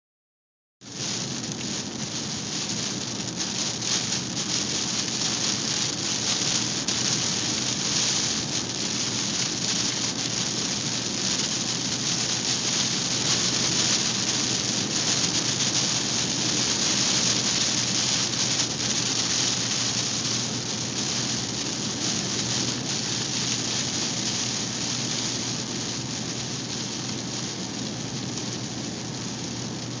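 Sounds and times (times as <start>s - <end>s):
heavy rain falling: 0.9s - 30.0s.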